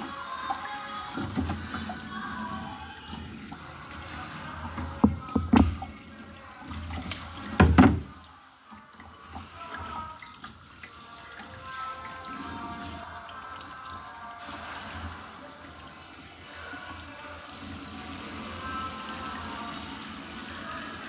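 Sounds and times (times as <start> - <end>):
water splashing in sink: 0.0 - 21.0.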